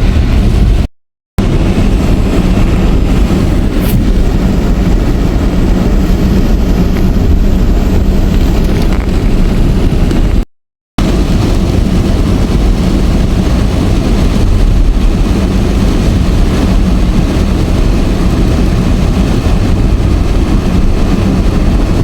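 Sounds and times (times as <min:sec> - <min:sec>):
torrential rain roaring: 0:00.0 - 0:10.4, 0:11.0 - 0:22.0.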